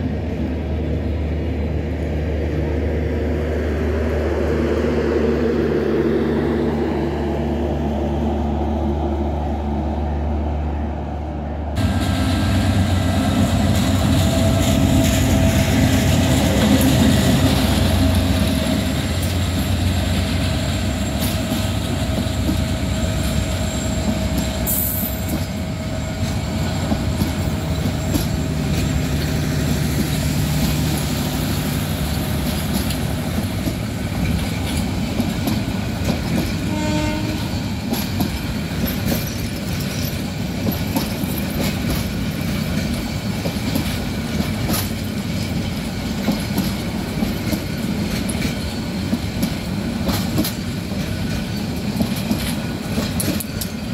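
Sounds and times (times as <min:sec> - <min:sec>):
train wheels rumbling and clattering: 0:00.0 - 0:53.9
locomotive engine running: 0:00.1 - 0:53.9.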